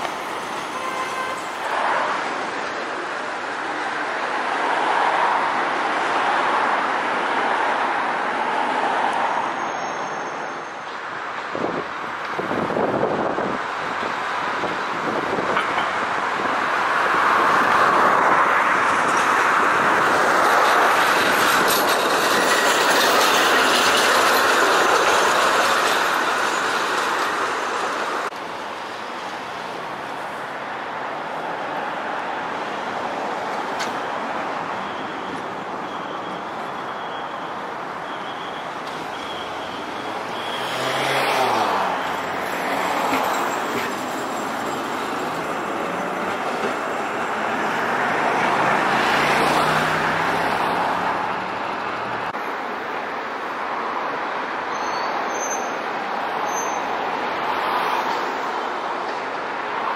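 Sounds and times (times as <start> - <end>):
road traffic noise: 0.0 - 59.9
tram passing: 0.0 - 59.9.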